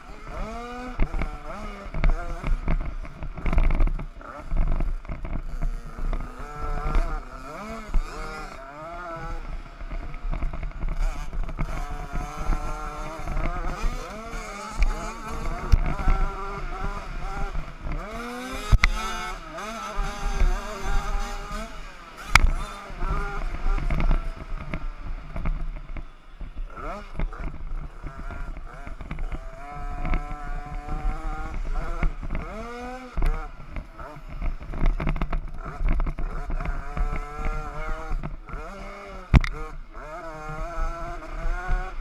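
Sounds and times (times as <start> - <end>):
motocross bikes revving: 0.0 - 42.0.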